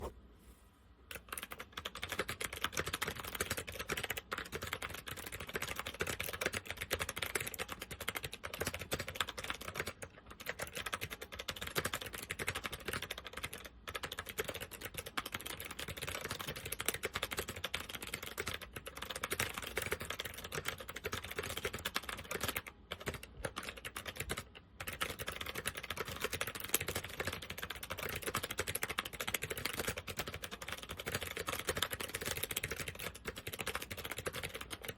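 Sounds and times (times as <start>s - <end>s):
clicky keyboard typing: 1.1s - 34.9s.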